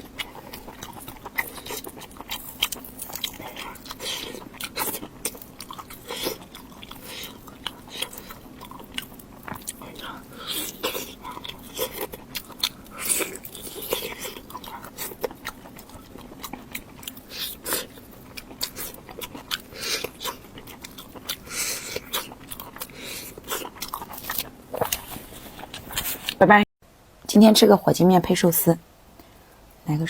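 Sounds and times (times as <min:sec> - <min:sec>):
chewing crunchy food: 0:00.0 - 0:26.4.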